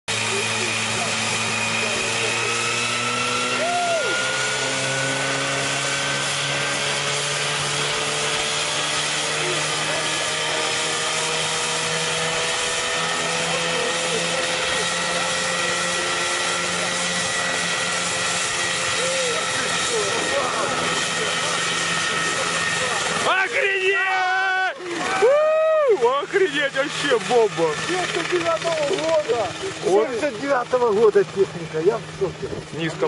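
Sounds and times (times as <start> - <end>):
helicopter engine and rotor: 0.1 - 33.0.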